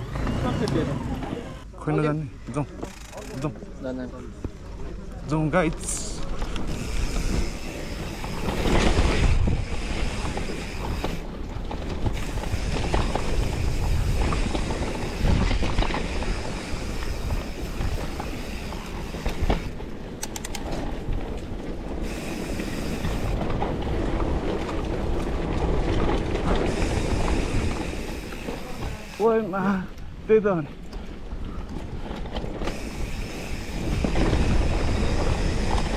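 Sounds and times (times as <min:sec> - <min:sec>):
bike rattling: 0:00.0 - 0:35.9.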